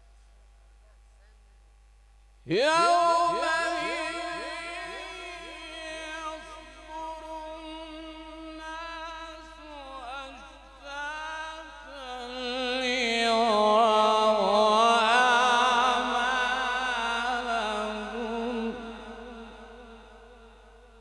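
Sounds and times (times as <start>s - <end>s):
man chanting melodically over pa: 2.4s - 21.0s.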